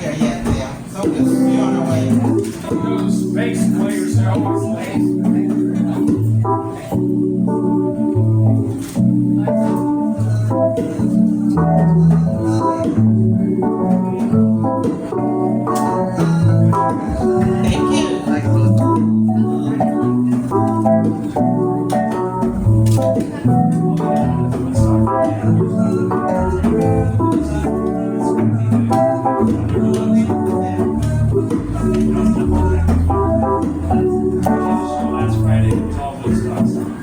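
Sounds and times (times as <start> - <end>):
bass line: 0.0 - 37.0
guitar: 0.0 - 37.0
organ-style keyboard chords: 0.0 - 37.0.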